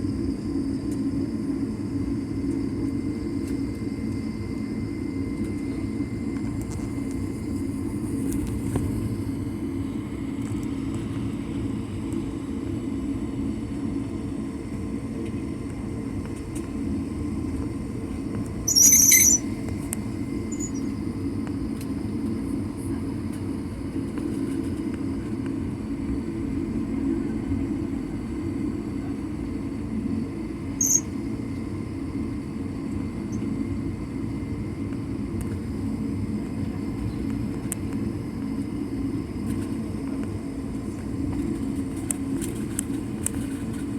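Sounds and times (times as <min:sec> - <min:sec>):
jet airliner cabin hum: 0:00.0 - 0:43.9.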